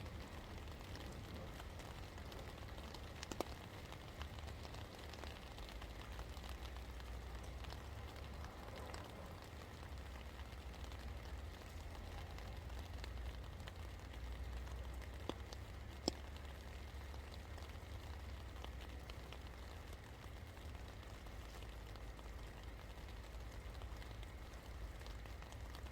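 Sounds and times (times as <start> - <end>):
low steady rumble: 0.0 - 25.9
rain falling: 0.0 - 25.9
sharp drip clicks: 0.1 - 9.1, 10.2 - 25.9.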